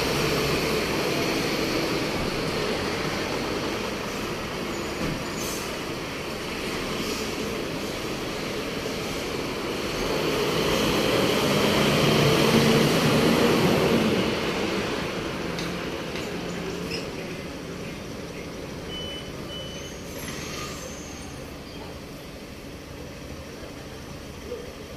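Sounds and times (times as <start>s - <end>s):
fire engine diesel rumble: 0.0s - 24.9s.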